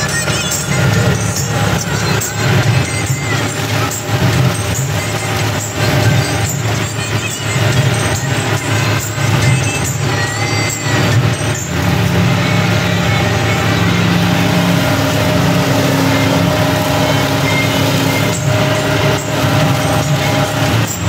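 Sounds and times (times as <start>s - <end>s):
steady high whine: 0.0s - 21.0s
tractor diesel engine under load: 0.0s - 21.0s.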